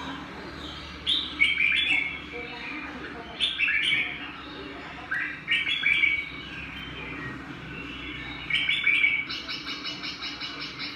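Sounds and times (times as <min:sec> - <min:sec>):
songbird chirping: 0:00.0 - 0:10.9.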